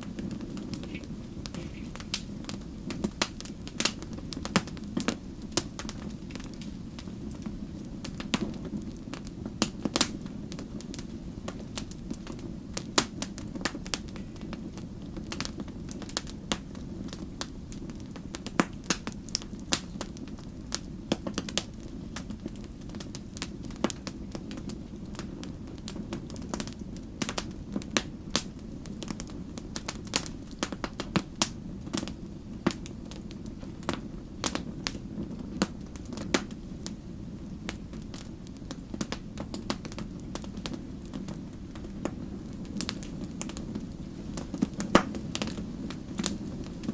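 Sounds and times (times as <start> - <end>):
campfire crackling and popping: 0.0 - 46.9
low rumble of flame: 0.0 - 46.9.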